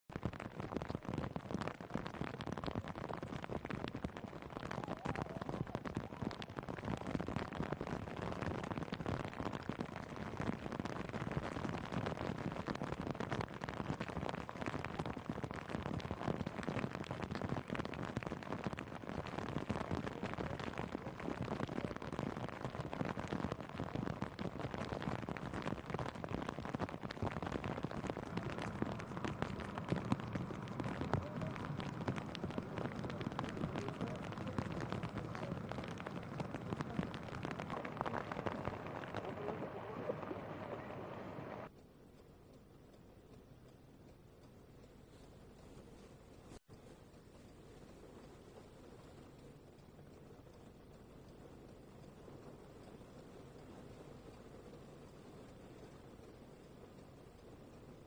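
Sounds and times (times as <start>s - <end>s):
heavy rain falling: 0.1s - 41.7s, 47.4s - 58.0s.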